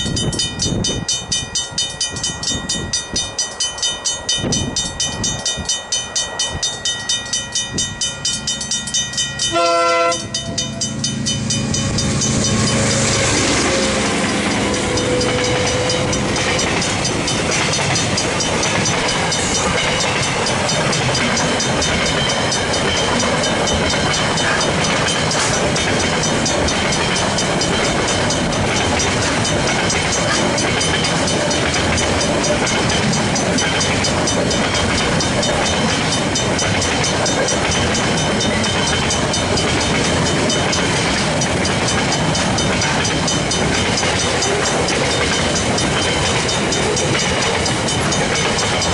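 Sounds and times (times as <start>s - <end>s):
crossing bells ringing: 0.0s - 48.9s
freight train wheels rolling: 0.0s - 48.9s.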